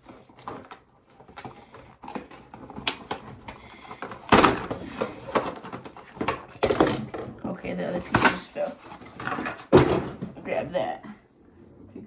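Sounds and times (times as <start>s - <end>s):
plastic clatter: 0.0s - 10.6s
cardboard packaging rustling: 0.0s - 10.9s.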